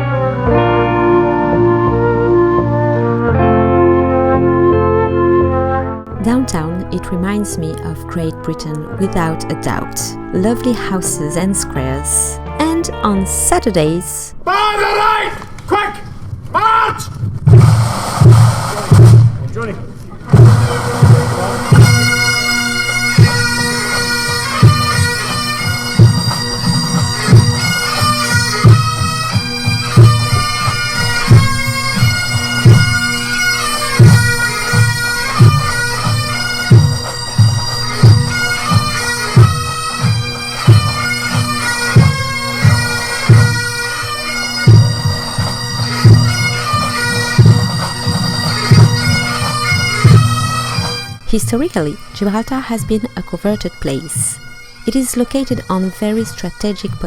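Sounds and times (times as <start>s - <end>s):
bagpipes playing a march: 0.0s - 15.2s, 20.3s - 57.0s.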